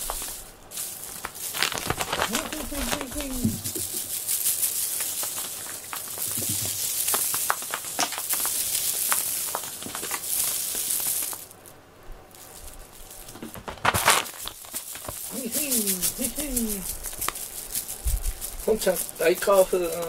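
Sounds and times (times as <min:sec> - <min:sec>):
crinkly toy rustling on foam mat: 0:00.0 - 0:20.0.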